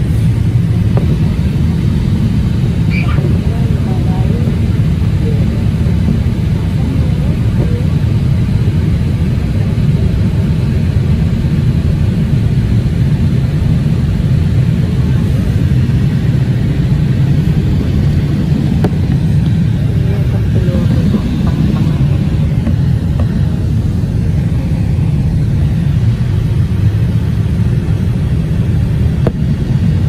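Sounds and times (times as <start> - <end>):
airliner cabin engine rumble: 0.0 - 30.0.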